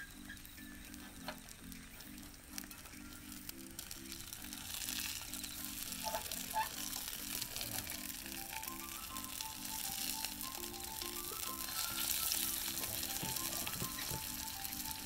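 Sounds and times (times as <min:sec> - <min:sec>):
background music: 0:00.0 - 0:15.0
meat sizzling in a frying pan: 0:00.0 - 0:15.0.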